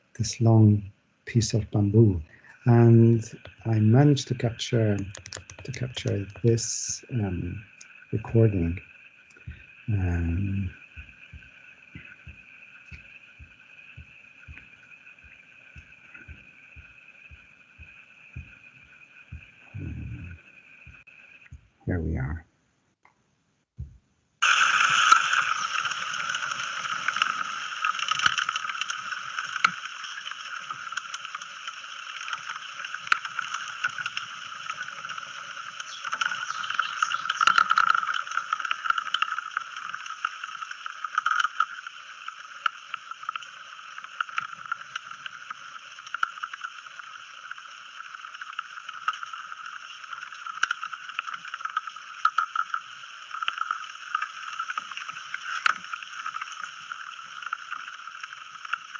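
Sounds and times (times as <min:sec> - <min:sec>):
bamboo clicks and crackles: 0:03.2 - 0:21.1, 0:24.4 - 0:58.9.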